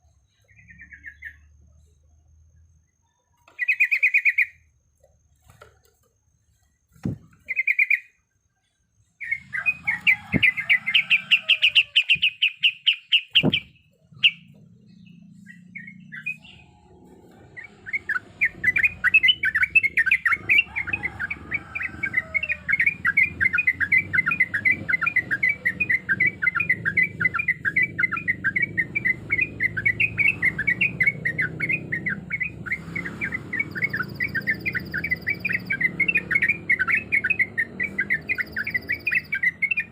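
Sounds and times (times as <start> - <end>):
bird singing trills: 0.0 - 4.7, 6.9 - 39.9.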